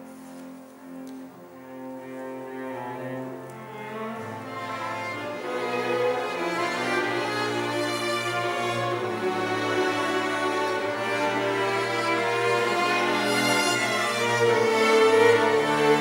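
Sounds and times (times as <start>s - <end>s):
string orchestra playing: 0.0s - 16.0s.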